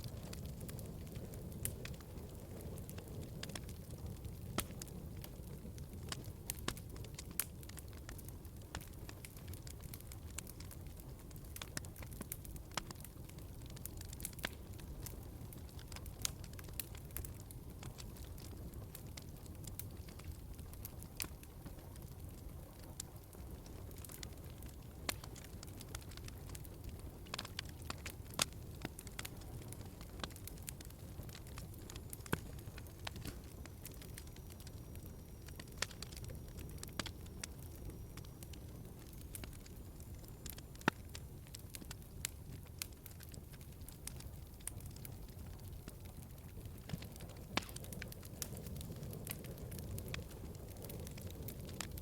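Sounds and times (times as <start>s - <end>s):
burning logs popping: 0.0s - 52.0s
low rumble of flames: 0.0s - 52.0s.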